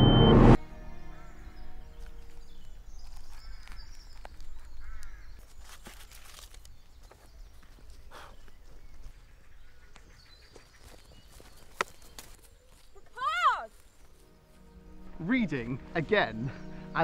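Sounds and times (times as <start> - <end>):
birds calling: 1.0 - 17.0.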